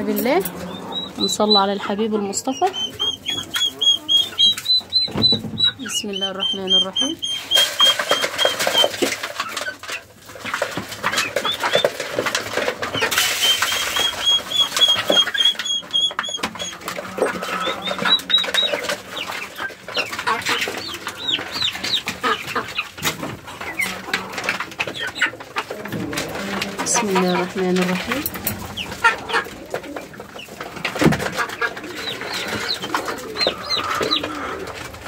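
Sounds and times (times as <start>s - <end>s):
chickens clucking: 0.0s - 35.0s
chicks high peeps: 0.0s - 35.0s
pecking clicks on feed pans: 0.0s - 35.0s.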